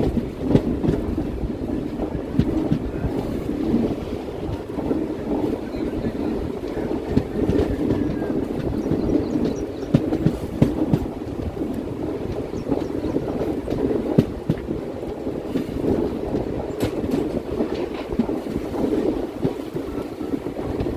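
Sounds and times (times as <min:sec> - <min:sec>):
train wheels rumbling on track: 0:00.0 - 0:20.9
wheels clacking over rail joints: 0:00.0 - 0:20.9.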